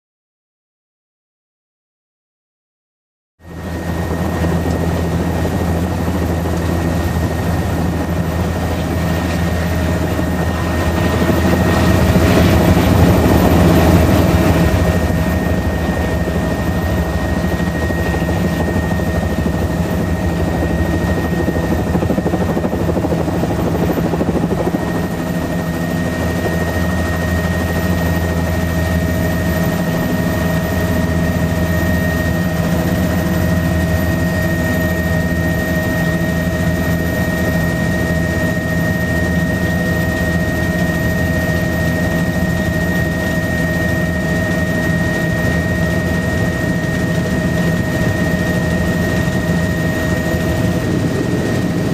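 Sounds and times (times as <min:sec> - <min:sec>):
helicopter engine and rotor: 0:03.4 - 0:51.9.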